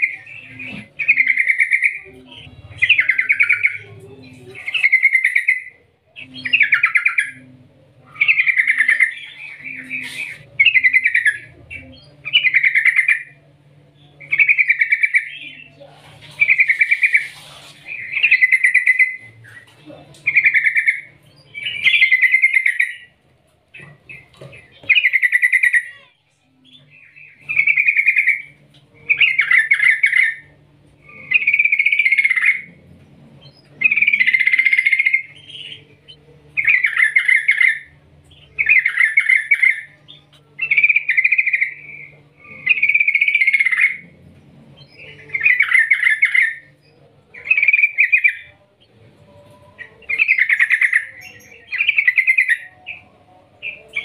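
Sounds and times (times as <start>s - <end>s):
bird singing trilled phrases: 0.0s - 54.0s.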